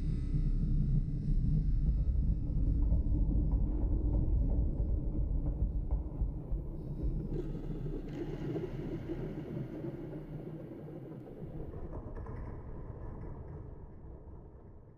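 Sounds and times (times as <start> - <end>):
low rumbling background: 0.0 - 13.0.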